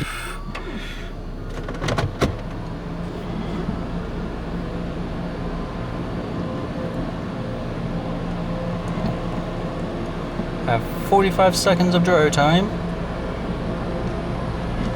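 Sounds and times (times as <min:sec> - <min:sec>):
car wash dryers blowing: 0:00.0 - 0:14.9.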